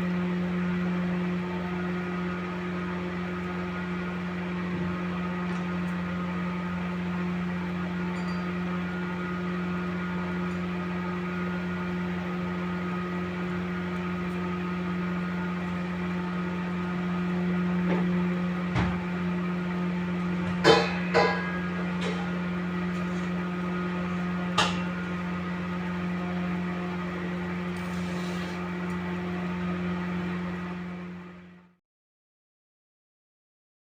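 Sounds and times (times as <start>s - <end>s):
appliance motor humming: 0.0s - 31.7s.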